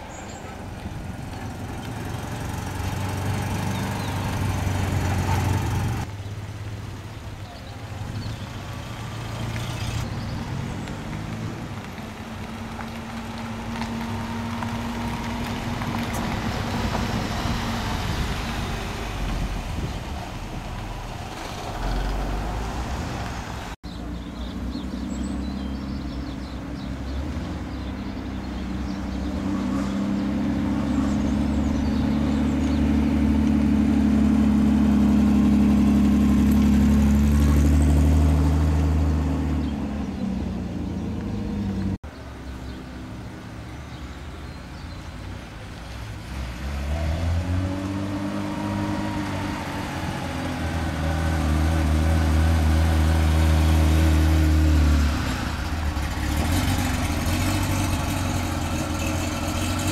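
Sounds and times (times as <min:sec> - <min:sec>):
car engines running: 0:00.0 - 0:59.9.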